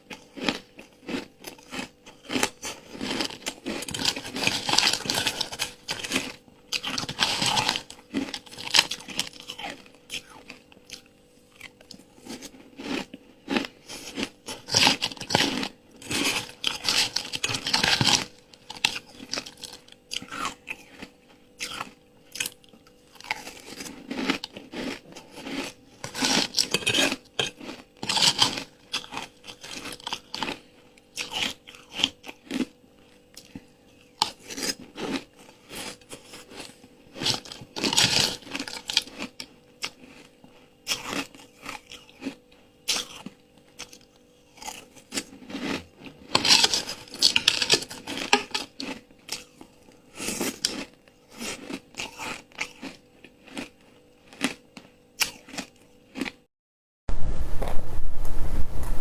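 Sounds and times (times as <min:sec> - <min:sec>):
ice being chewed: 0:00.0 - 0:56.5.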